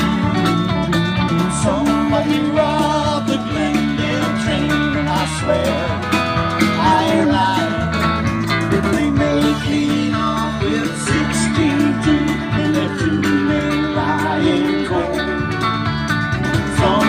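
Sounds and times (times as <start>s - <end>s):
country-rock band playing live: 0.0s - 17.0s.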